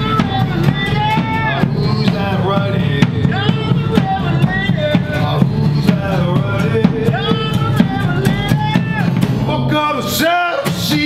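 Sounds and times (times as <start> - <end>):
acoustic guitar: 0.0 - 11.0
drum kit beat: 0.0 - 11.0.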